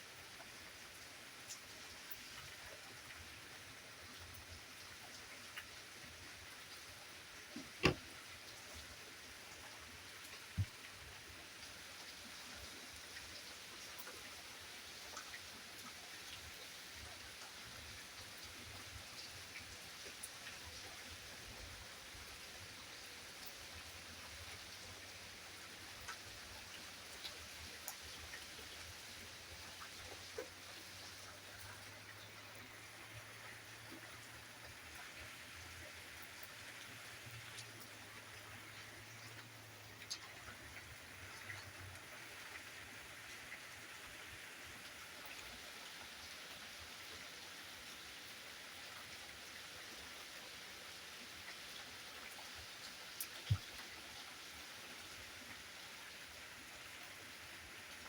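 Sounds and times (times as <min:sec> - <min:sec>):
light rain: 0:00.0 - 0:58.0.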